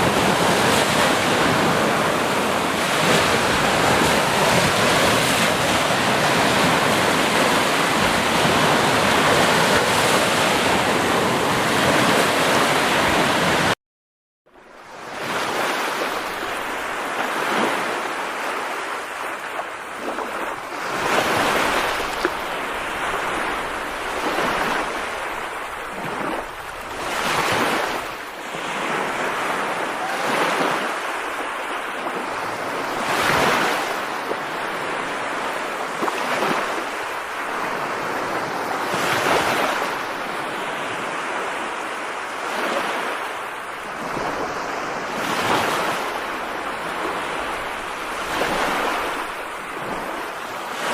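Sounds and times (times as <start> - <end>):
rushing water: 0.0 - 13.8, 14.6 - 50.9
wind: 0.0 - 13.8, 14.4 - 50.9.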